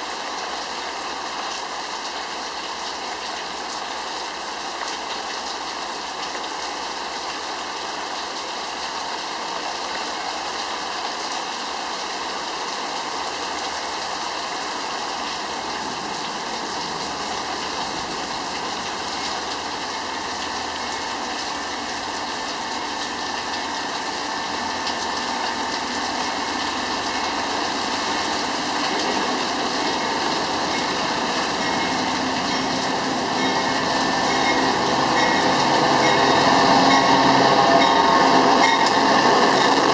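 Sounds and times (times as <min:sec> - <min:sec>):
diesel locomotive engine hum: 0:00.0 - 0:39.9
rain hiss: 0:00.0 - 0:39.9
train rail noise: 0:00.0 - 0:39.9.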